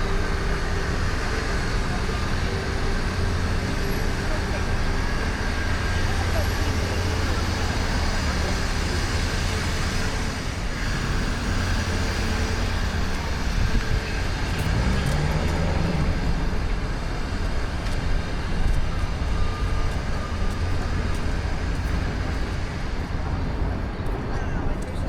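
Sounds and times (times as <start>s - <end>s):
engine rising in pitch: 0.0s - 21.5s
rumble of passing vehicles: 0.0s - 25.0s.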